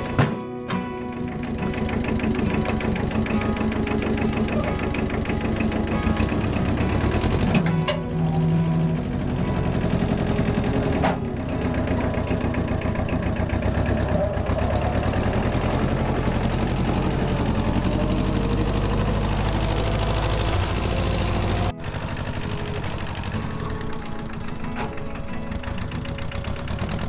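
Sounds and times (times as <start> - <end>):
engine fast idle: 1.0 - 27.0.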